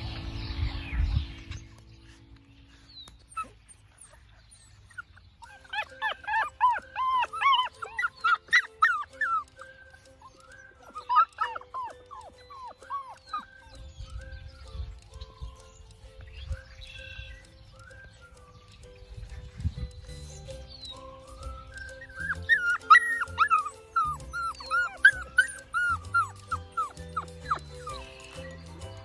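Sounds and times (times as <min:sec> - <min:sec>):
puppies whining and yipping: 0:00.0 - 0:29.0.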